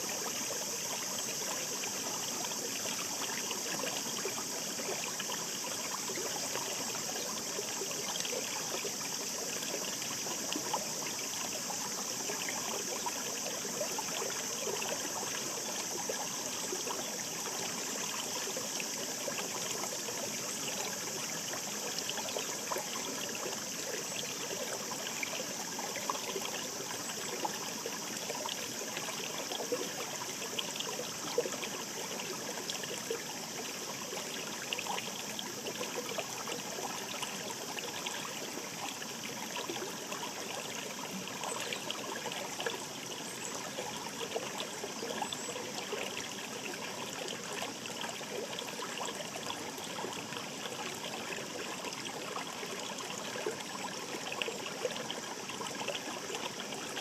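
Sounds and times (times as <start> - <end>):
mountain stream babbling: 0.0 - 57.0.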